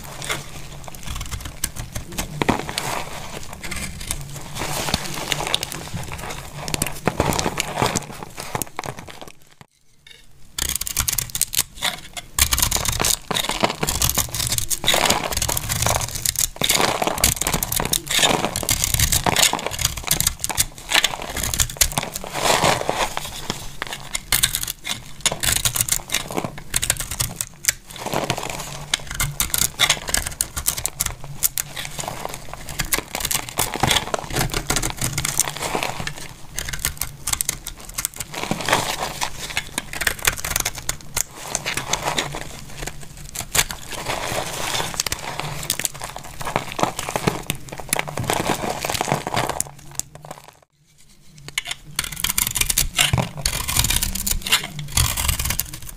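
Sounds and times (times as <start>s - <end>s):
soap crackling and crunching: 0.0s - 9.7s, 10.5s - 50.8s, 51.4s - 55.9s.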